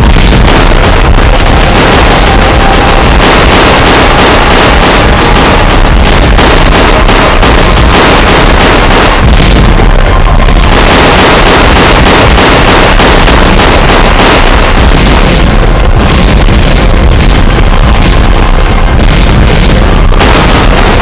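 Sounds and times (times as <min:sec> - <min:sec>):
explosions: 0:00.0 - 0:21.0
rapid gunfire: 0:00.0 - 0:21.0.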